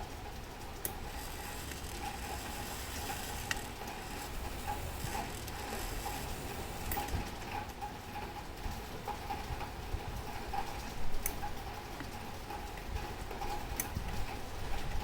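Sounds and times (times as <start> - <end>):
sharp clock clicks: 0.7 - 14.4.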